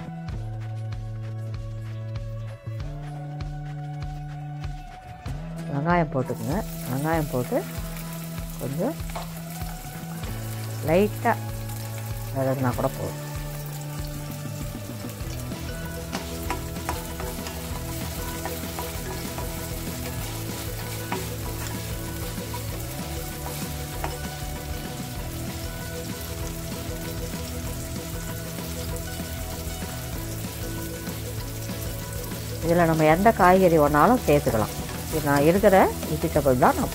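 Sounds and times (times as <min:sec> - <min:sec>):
onions sizzling in oil: 0:06.2 - 0:36.9.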